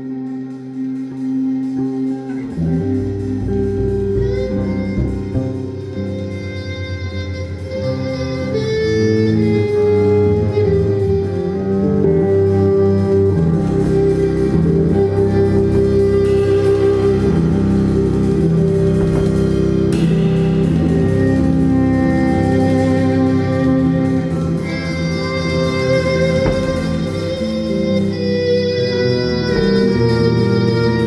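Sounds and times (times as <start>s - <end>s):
amplified violin: 0.0s - 31.0s
bass: 0.0s - 31.0s
jazz ensemble playing: 0.0s - 31.0s.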